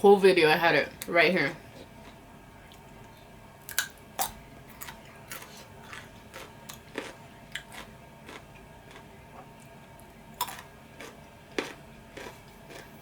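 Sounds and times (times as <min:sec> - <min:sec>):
person chewing food: 0:01.7 - 0:13.0.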